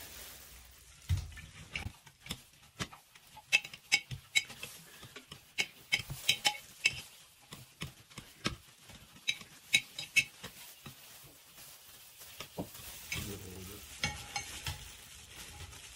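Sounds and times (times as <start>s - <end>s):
hand tool mashing watermelon: 1.1s - 15.9s.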